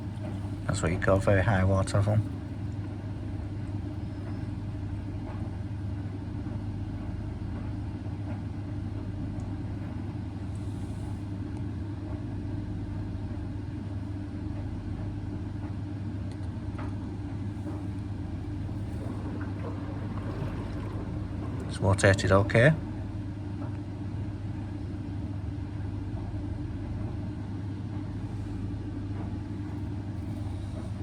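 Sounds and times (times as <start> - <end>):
washing machine hum and rumble: 0.0 - 31.0.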